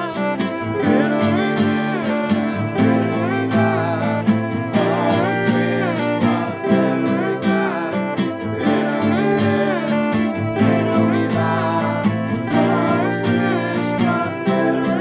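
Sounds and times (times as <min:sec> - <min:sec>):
fiddle: 0:00.0 - 0:15.0
person singing: 0:00.0 - 0:15.0
strummed acoustic guitar: 0:00.0 - 0:15.0
ukulele: 0:00.0 - 0:15.0.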